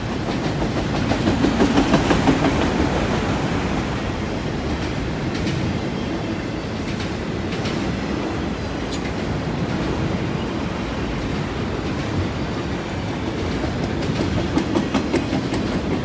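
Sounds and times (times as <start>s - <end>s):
train wheels clacking over track: 0.0s - 16.0s.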